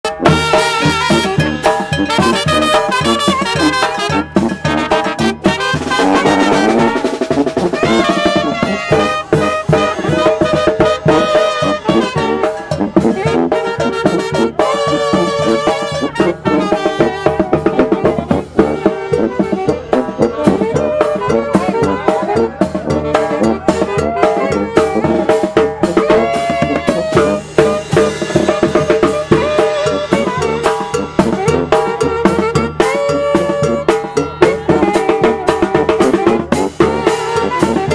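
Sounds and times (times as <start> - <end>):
brass band playing: 0.0 - 37.9
bass drum and cymbal beat: 0.1 - 37.9.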